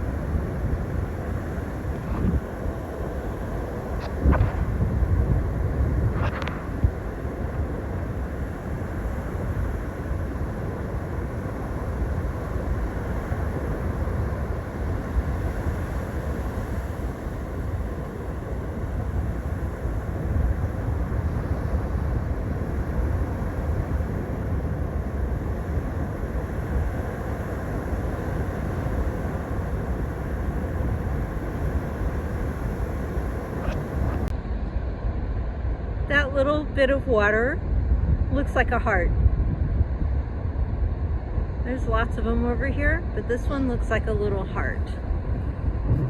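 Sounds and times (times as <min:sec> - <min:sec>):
ocean surf rumble: 0:00.0 - 0:46.0
wind buffeting microphone: 0:00.0 - 0:46.0.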